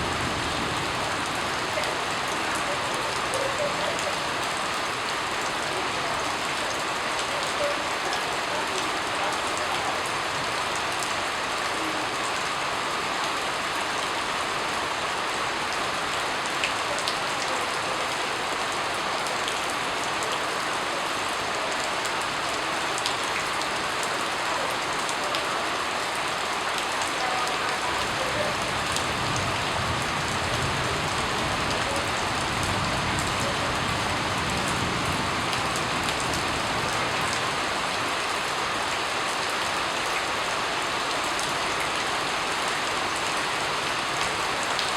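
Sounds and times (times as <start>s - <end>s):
rain pattering on a surface: 0.0s - 44.9s.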